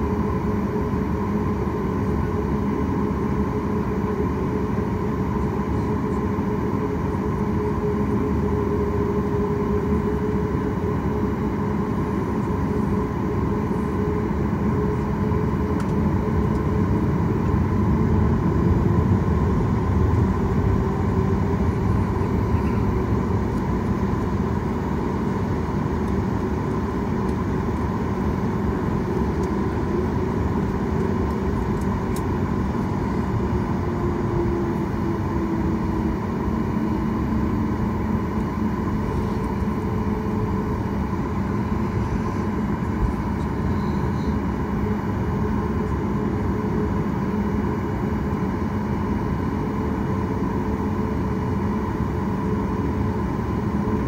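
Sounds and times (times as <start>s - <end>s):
aircraft cabin noise: 0.0s - 54.0s
jet engines humming and whining: 0.0s - 54.0s.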